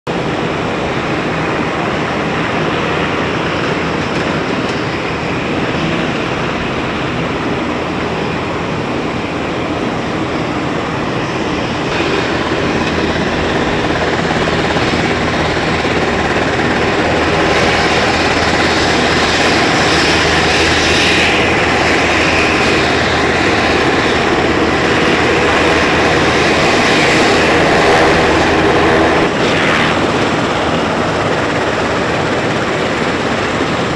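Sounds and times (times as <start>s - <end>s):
helicopter rotor and turbine: 0.1s - 33.9s.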